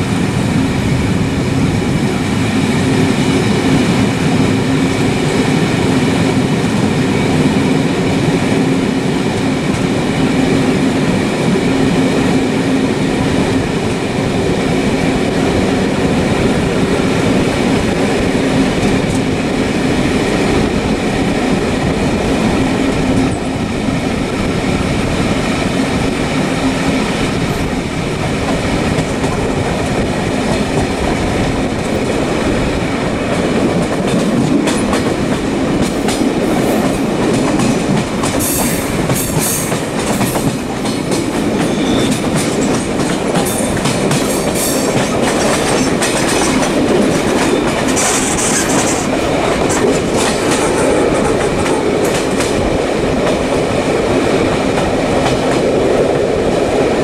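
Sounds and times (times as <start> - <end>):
moving train running noise: 0.0 - 57.0.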